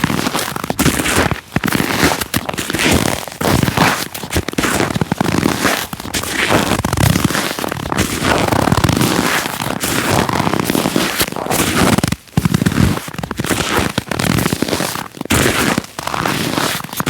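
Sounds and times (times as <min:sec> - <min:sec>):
footsteps crunching in snow: 0:00.0 - 0:17.0.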